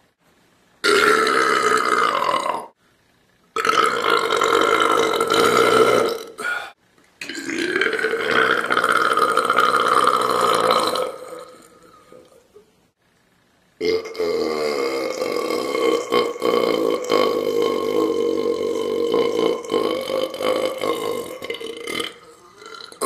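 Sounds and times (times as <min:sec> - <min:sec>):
person belching: 0:00.8 - 0:02.8, 0:03.6 - 0:12.4, 0:13.8 - 0:23.0.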